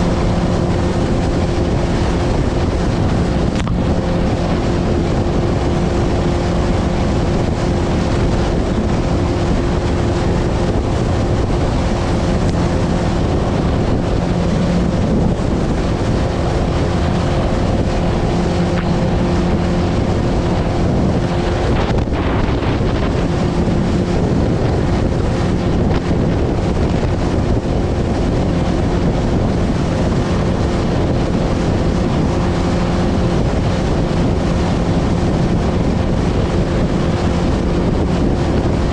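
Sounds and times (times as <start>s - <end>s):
motorboat engine running: 0.0s - 38.9s
wind buffeting microphone: 0.0s - 38.9s.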